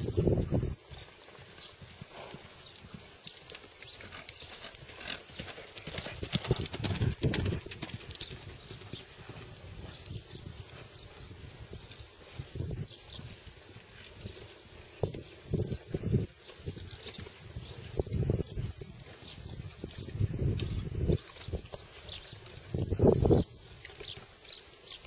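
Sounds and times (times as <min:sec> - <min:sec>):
horse hoofbeats on sand: 0:00.0 - 0:24.6.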